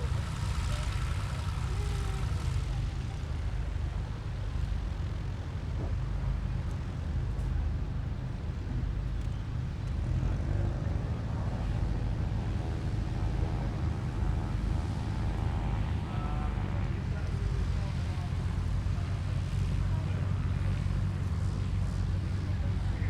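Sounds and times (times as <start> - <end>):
aircraft propeller engine: 0.0 - 23.0.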